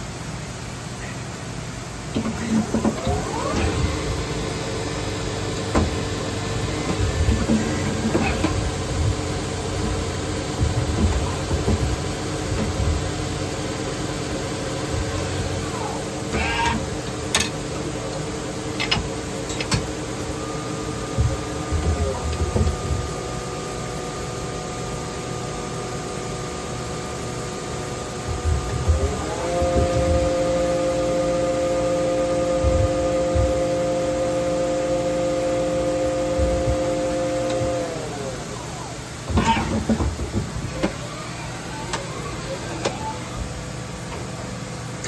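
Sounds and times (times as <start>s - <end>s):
high machine whine: 0.0s - 45.0s
machine humming: 0.0s - 45.0s.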